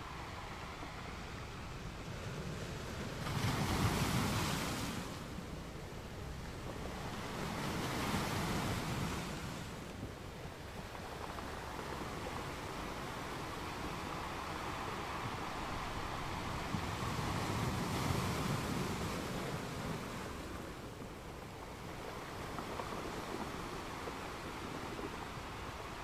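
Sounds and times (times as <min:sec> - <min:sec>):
sea waves on shore: 0:00.0 - 0:26.0.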